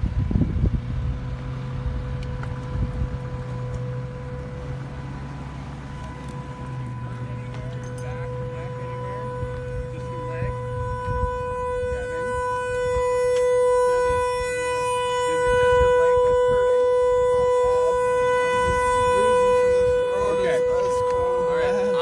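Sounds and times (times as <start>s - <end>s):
car horn blaring: 1.6s - 22.0s.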